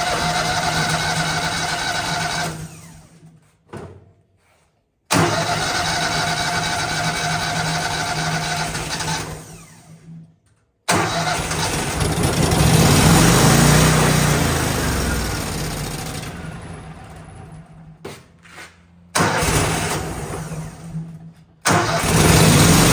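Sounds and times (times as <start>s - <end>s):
starter cranking engine: 0.0s - 3.2s, 5.1s - 10.2s, 10.9s - 17.8s, 19.2s - 22.9s.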